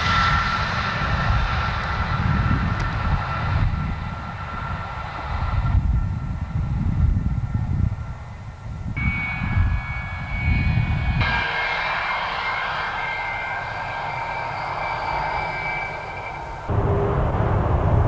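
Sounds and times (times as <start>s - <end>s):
jet engine whining: 0.0s - 18.0s.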